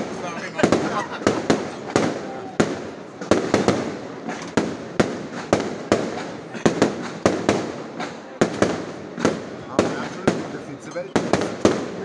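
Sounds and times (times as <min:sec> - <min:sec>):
fireworks bursts with echo: 0:00.0 - 0:12.0.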